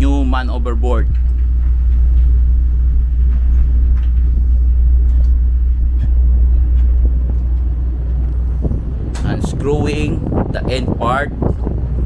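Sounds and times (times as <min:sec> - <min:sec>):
deep steady rumble: 0:00.0 - 0:12.0.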